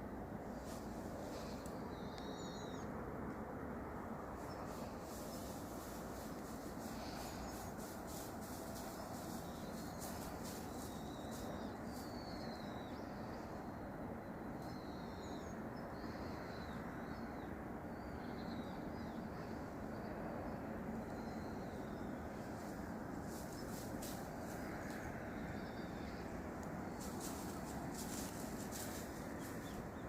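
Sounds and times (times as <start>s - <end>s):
outdoor background noise: 0.0s - 30.0s
birds chirping faintly: 0.5s - 3.0s, 3.8s - 30.0s.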